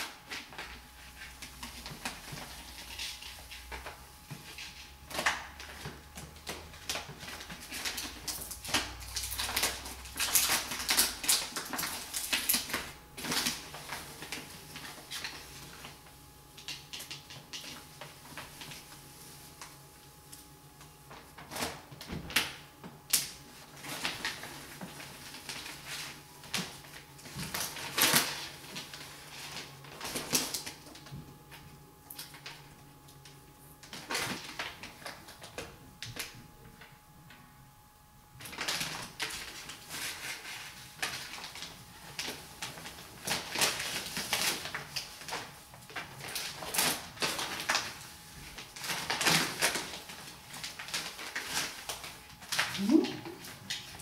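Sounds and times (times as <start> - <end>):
plastic sheet crinkling: 0.0 - 37.0, 38.3 - 54.0.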